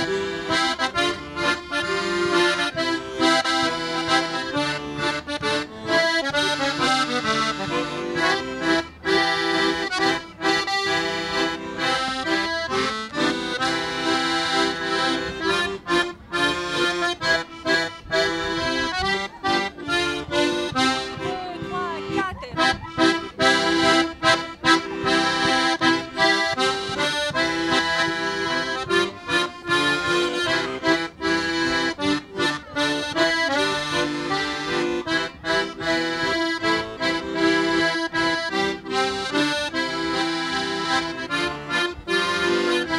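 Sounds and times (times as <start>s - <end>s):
accordion ensemble playing: 0.0s - 42.9s.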